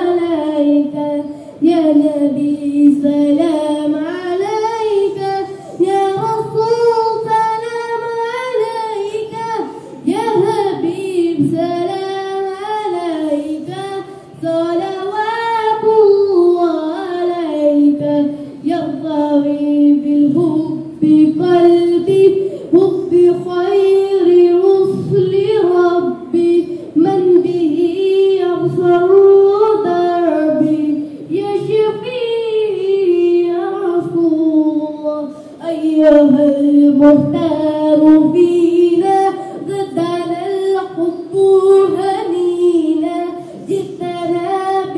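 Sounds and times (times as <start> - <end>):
boy singing solo: 0.0 - 44.9.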